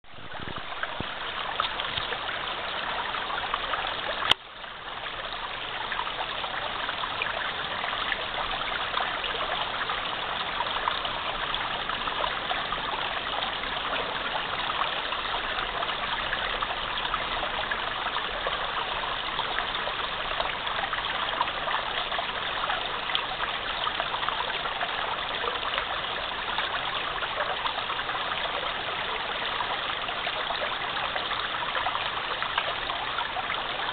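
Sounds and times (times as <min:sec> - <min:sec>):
stream babbling: 0:00.0 - 0:33.9.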